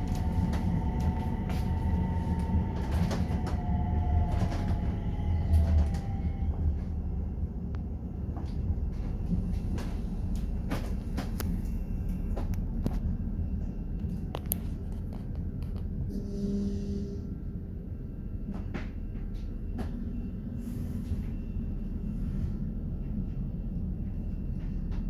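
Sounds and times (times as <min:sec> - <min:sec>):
tram low rumble: 0:00.0 - 0:25.0.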